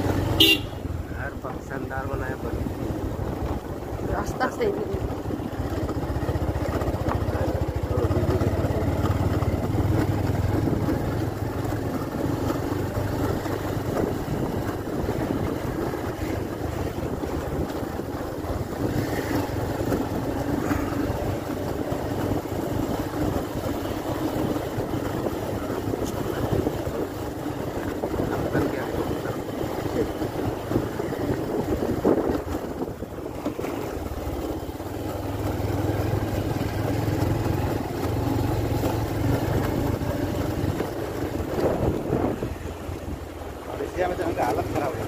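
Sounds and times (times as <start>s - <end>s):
motorcycle engine running: 0.0s - 45.0s
wind buffeting microphone: 1.9s - 45.0s.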